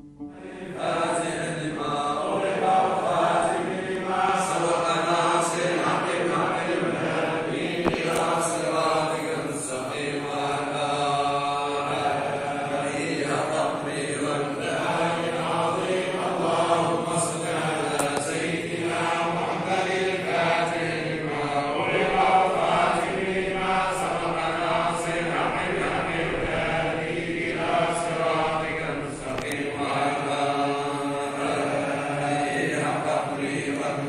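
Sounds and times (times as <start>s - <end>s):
men chanting in unison: 0.3s - 34.0s.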